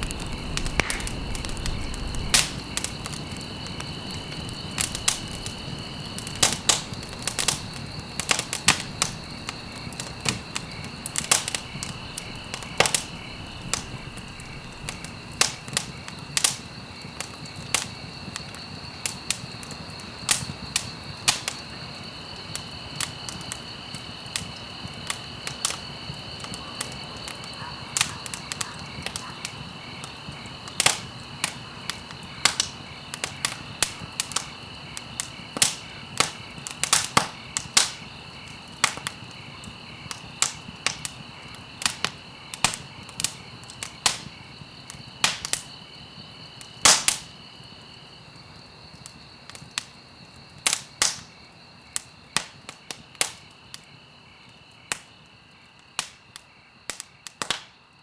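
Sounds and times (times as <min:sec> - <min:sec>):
wood fire crackling: 0:00.0 - 0:57.7.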